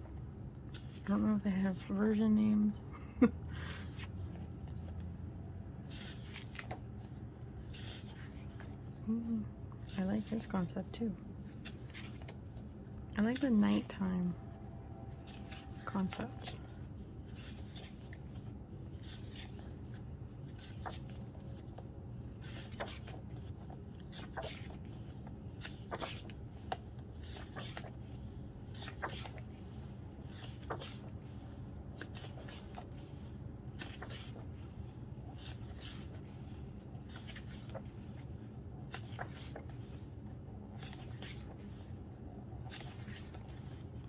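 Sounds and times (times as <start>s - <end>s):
book pages turning: 0.0s - 2.6s, 3.8s - 44.0s
low background rumble: 0.0s - 44.0s.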